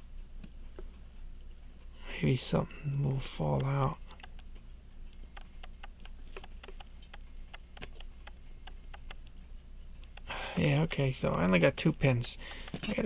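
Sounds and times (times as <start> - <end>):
pocket watch ticking: 0.0 - 13.0.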